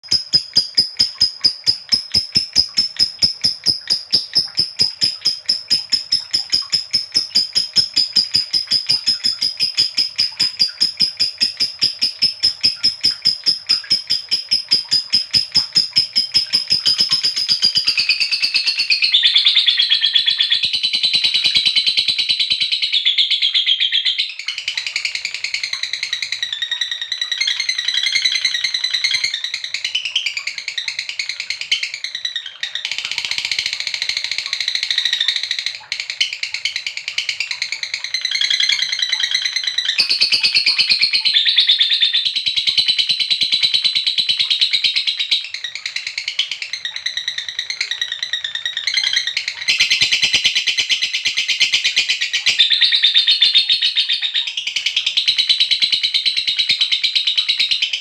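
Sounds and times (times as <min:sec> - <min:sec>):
lovebird chattering: 0:00.0 - 0:54.4.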